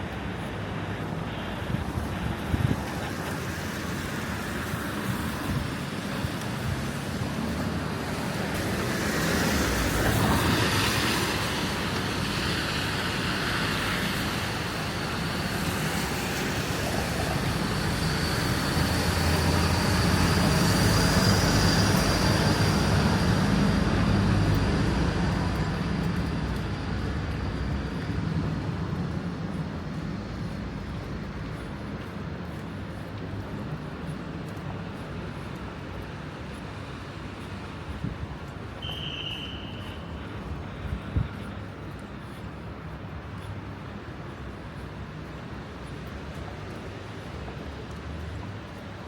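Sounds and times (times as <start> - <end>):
vehicles passing on wet road: 0.0 - 49.0.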